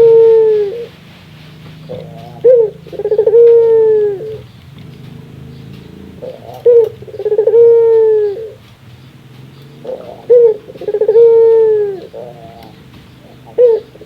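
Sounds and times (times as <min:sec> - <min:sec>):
dove laughing call: 0:00.0 - 0:14.0.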